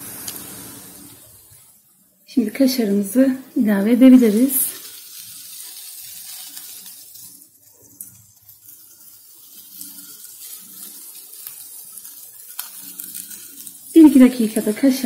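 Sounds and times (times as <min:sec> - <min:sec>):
faint frying sizzle: 0:00.0 - 0:15.0.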